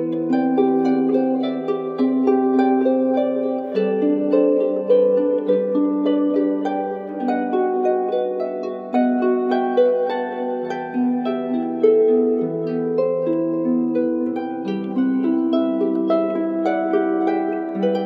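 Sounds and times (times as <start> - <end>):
plucked harp-like melody: 0.0 - 18.0.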